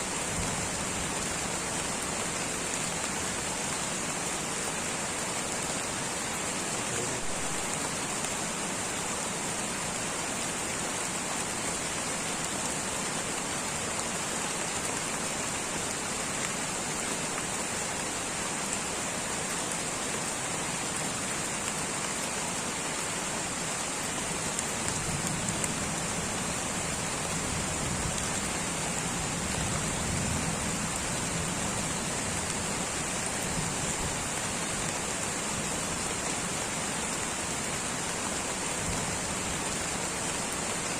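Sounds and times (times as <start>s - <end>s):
light rain hissing: 0.0s - 40.9s.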